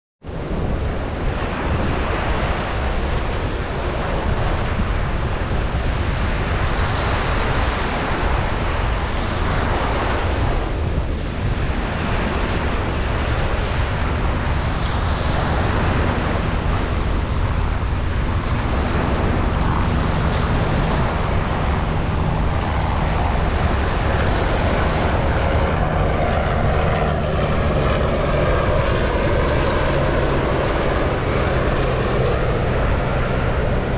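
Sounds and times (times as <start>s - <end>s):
engine drone: 0.3s - 33.9s
ocean surf on beach: 0.3s - 33.9s.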